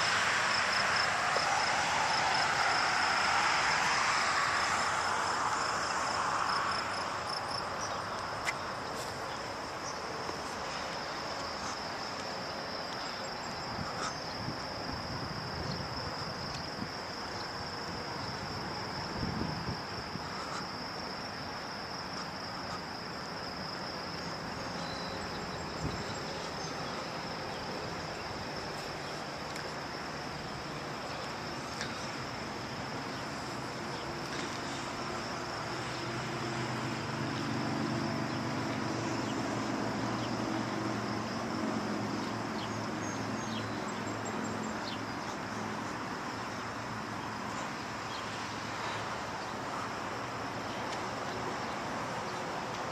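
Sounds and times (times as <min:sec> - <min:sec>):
distant traffic: 0:00.0 - 0:52.9
insects trilling: 0:00.0 - 0:52.9
wind: 0:00.0 - 0:52.9.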